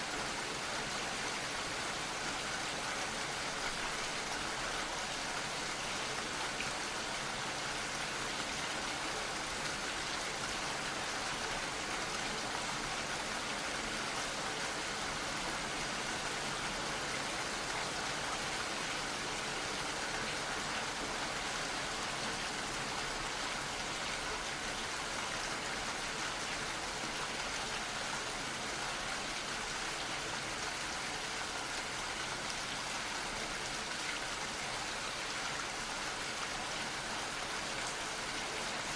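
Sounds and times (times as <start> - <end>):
gentle rain pattering: 0.0 - 38.9.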